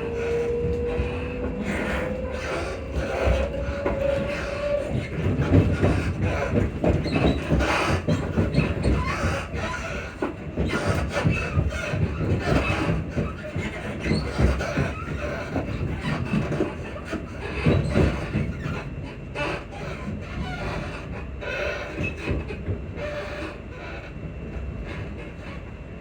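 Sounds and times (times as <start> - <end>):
suspension squeaks and creaks: 0.0 - 23.4
train running rumble: 0.0 - 26.0.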